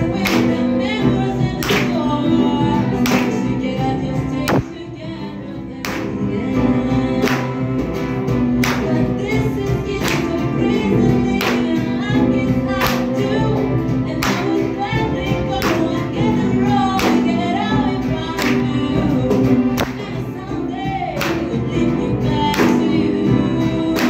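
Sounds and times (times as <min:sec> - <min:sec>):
acoustic guitar: 0:00.0 - 0:24.0
cello: 0:00.0 - 0:24.0
double bass: 0:00.0 - 0:24.0
piano: 0:00.0 - 0:24.0
woman singing into a microphone: 0:00.0 - 0:24.0.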